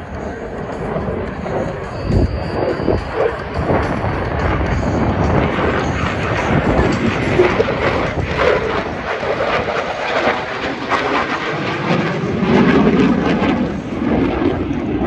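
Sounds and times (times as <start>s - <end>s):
fighter jet flying overhead: 0.0s - 15.0s.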